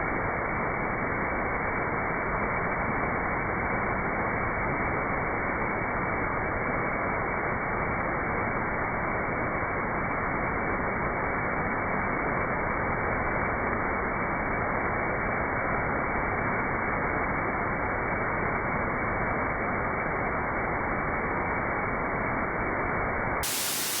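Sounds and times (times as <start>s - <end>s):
waterfall: 0.0s - 24.0s.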